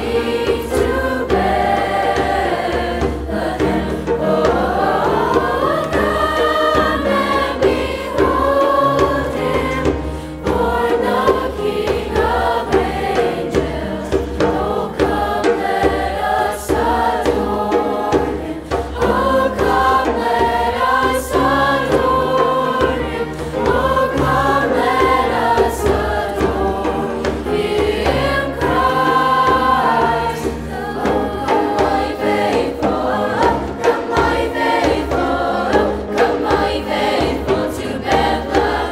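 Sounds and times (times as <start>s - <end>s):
school chorus singing: 0.0s - 38.9s.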